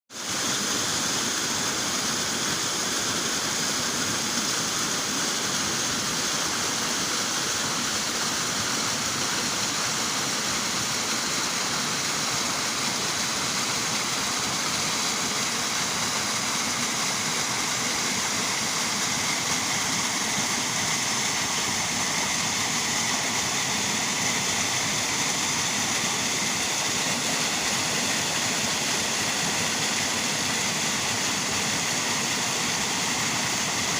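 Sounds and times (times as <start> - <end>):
waterfall roaring: 0.2 - 33.9.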